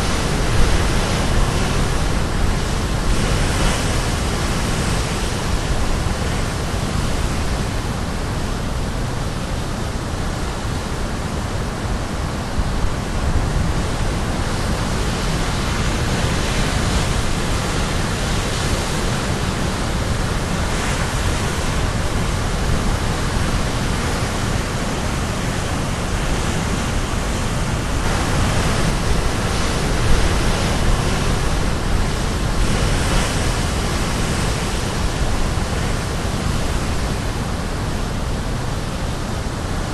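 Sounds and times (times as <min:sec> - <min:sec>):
surf crashing on shore: 0:00.0 - 0:39.9
waves breaking: 0:00.0 - 0:39.9.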